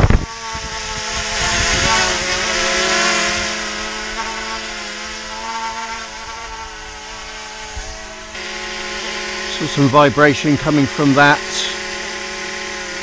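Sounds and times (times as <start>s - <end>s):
drone buzzing whine: 0.0s - 13.0s.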